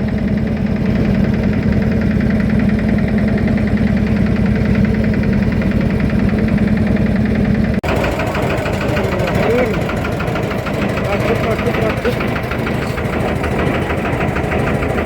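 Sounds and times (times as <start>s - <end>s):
boat engine pulsing: 0.0s - 15.0s.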